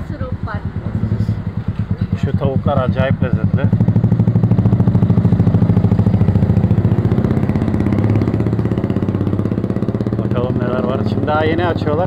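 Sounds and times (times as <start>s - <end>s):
motorcycle engine puttering: 0.0s - 12.0s.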